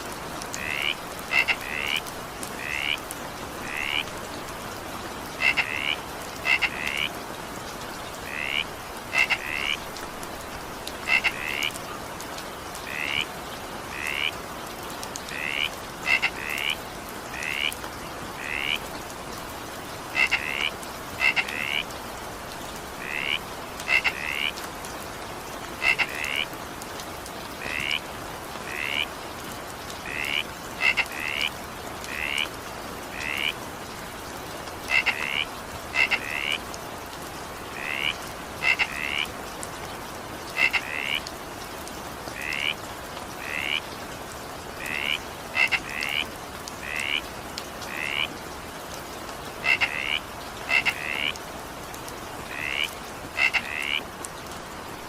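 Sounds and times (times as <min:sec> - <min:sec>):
rain hiss: 0:00.0 - 0:55.0
frogs croaking: 0:00.1 - 0:54.7.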